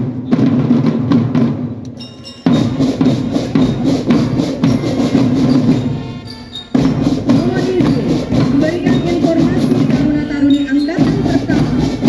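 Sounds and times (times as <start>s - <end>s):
marching drum band playing: 0.0s - 12.0s.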